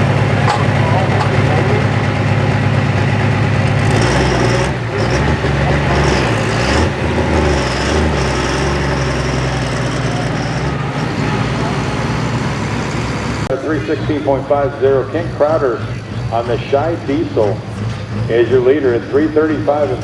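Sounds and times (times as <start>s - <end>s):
truck engine running under load: 0.0s - 20.0s.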